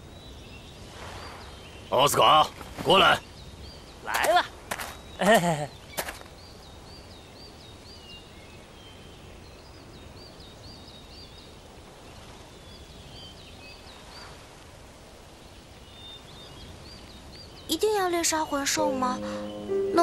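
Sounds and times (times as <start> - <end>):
steady soft forest hiss: 0.0 - 20.0.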